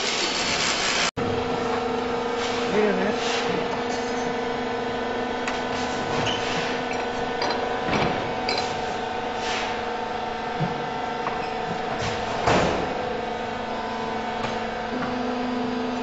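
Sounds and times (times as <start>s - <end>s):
concrete pump machine hum: 0.0s - 16.0s.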